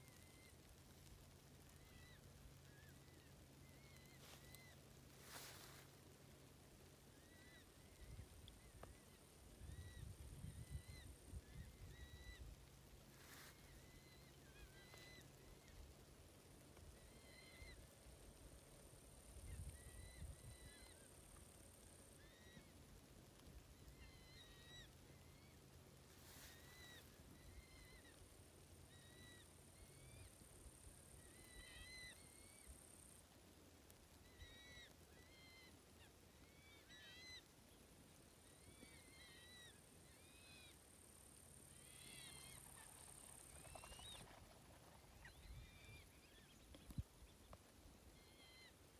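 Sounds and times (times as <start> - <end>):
faint bird calls: 0.0 - 48.9.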